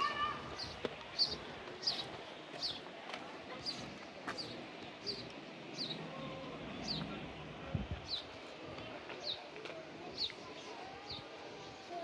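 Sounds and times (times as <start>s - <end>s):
faint background murmur: 0.0s - 12.0s
songbird chirping: 0.0s - 12.0s.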